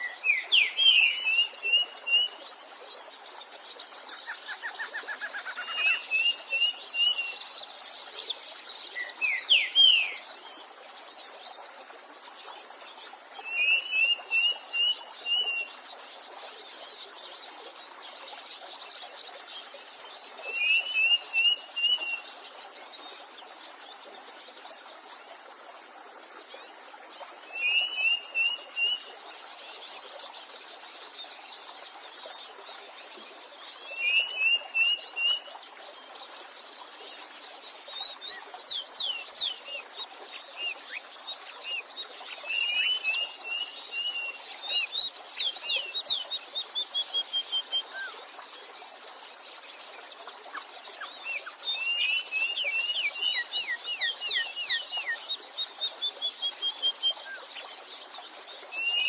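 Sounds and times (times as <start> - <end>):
stream hissing: 0.0 - 59.0.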